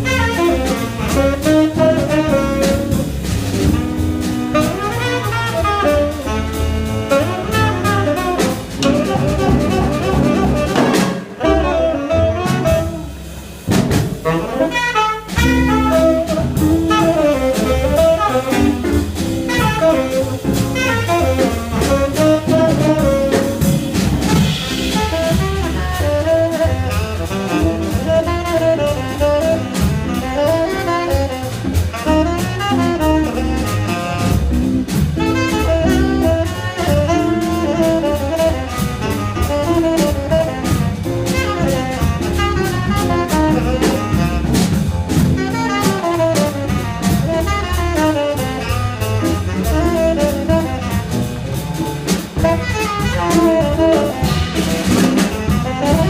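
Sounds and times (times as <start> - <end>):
saxophone melody: 0.0 - 13.4, 14.2 - 56.0
double bass: 0.0 - 56.0
drum kit: 0.0 - 56.0.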